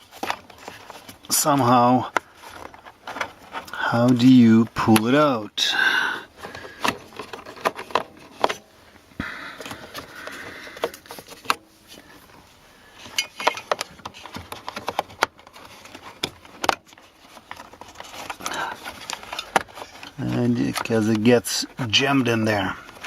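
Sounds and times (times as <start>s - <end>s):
plastic parts clicking and scraping: 0.0s - 23.0s.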